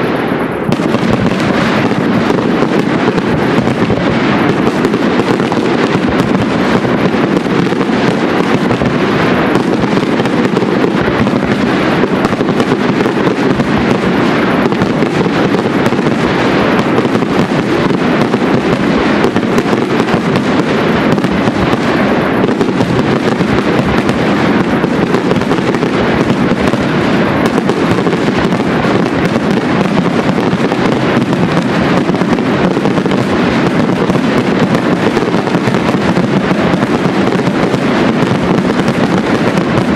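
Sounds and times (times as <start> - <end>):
firework shells bursting and crackling: 0.0 - 39.9.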